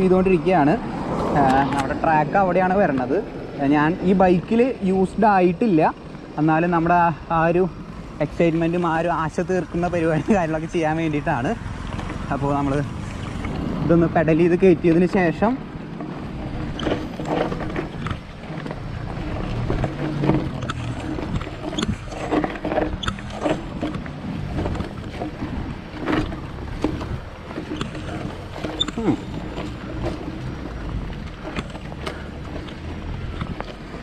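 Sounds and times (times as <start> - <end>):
tyres rumbling on dirt: 0.0 - 34.0
bike rattling knocks and clicks: 3.8 - 34.0.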